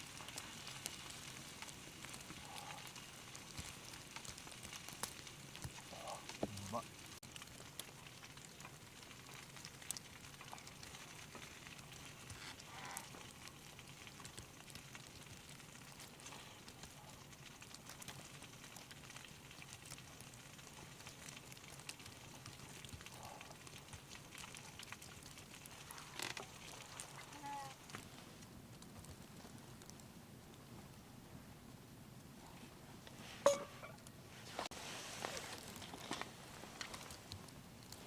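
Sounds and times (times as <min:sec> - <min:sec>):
low hiss: 0:00.0 - 0:38.0
wood fire crackling: 0:00.0 - 0:38.0.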